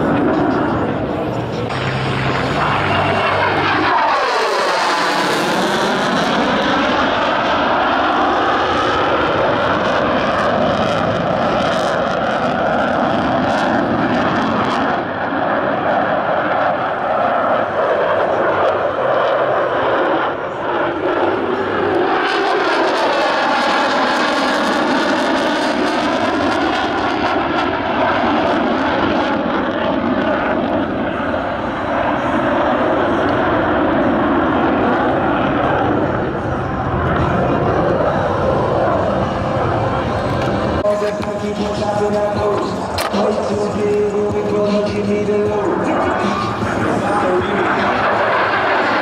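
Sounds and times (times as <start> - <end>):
jet engine roaring past: 0.0 - 49.0.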